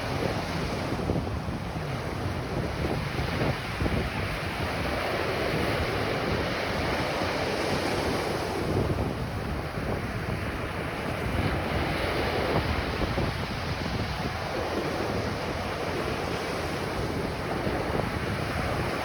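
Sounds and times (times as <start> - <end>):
ocean surf washing on beach: 0.0 - 19.0
wind rumbling on microphone: 0.0 - 19.0.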